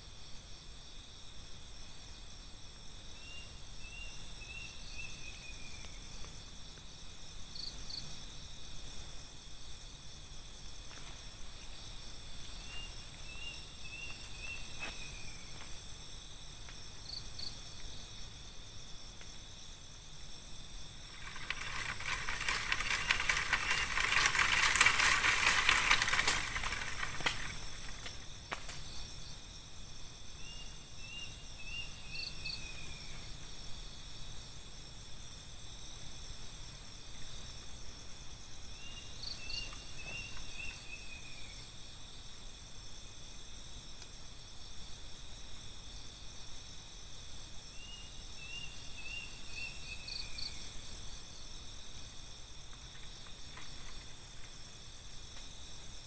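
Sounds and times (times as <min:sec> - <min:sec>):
insect chorus trilling: 0:00.0 - 0:56.0.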